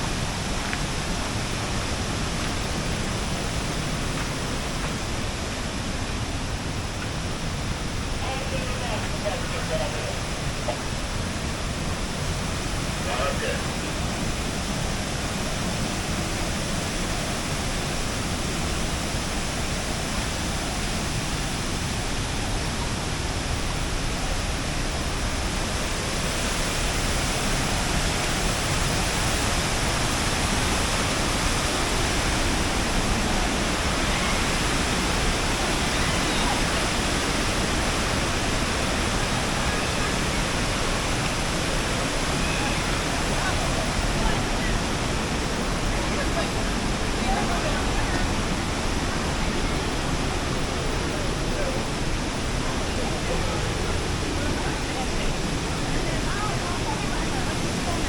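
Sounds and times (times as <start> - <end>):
waterfall roar: 0.0 - 58.0.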